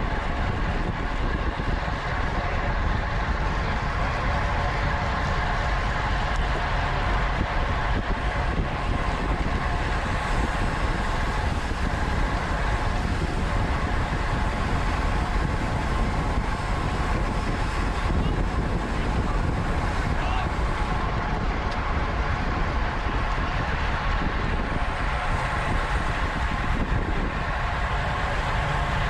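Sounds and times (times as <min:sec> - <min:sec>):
bicycle tyres and drivetrain humming: 0:00.0 - 0:29.0
wind rushing over microphone: 0:00.0 - 0:29.0.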